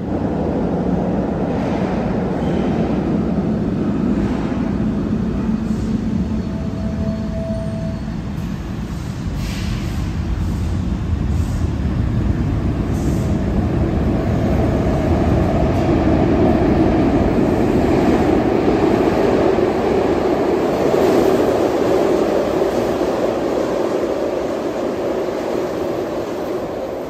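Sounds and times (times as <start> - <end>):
subway train wheels rumbling: 0.0 - 27.0.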